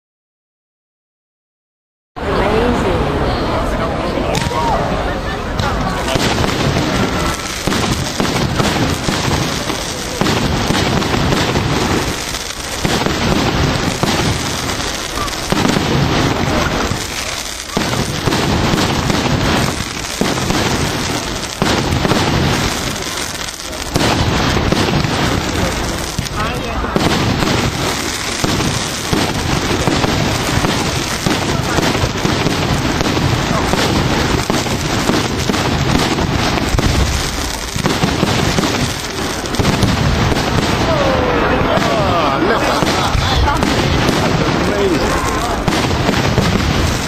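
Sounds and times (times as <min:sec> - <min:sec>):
fireworks bangs and crackle: 0:02.3 - 0:47.0.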